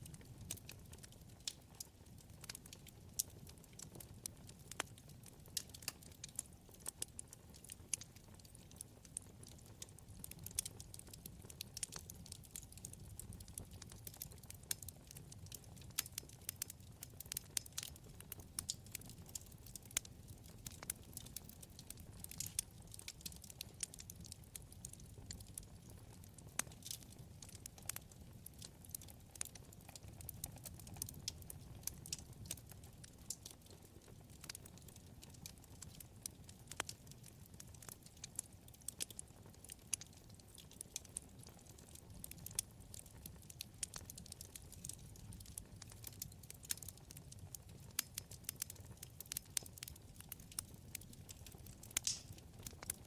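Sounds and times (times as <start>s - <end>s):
burning logs crackling: 0.0s - 53.0s
low rumble of flames: 0.0s - 53.0s.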